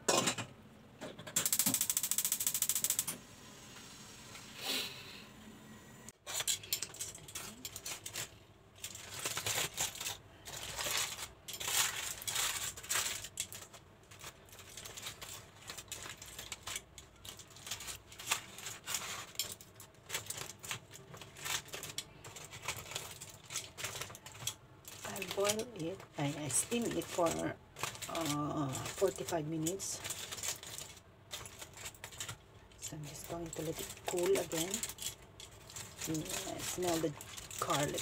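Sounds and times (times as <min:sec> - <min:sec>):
aluminium foil crinkling: 0:06.2 - 0:38.0.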